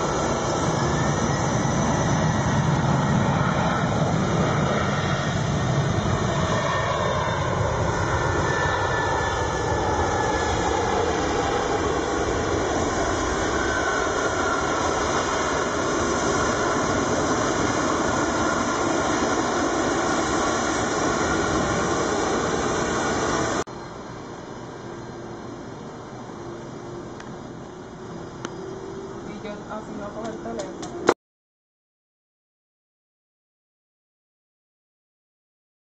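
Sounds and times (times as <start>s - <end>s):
jet engines rushing with whine: 0.0s - 31.2s.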